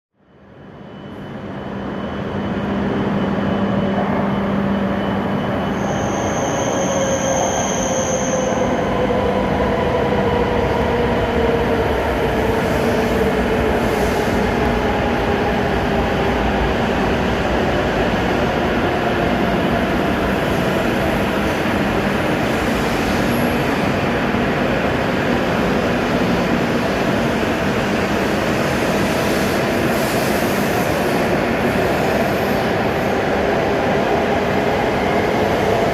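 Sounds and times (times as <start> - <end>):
trains rushing past: 0.4 - 35.9.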